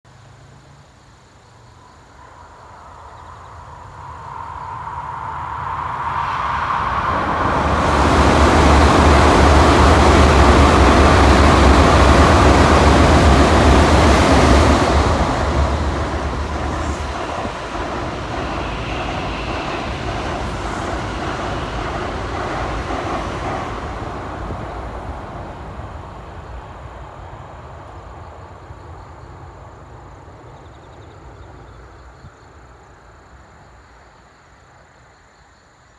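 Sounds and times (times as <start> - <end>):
high-speed trains passing: 0.1 - 35.9.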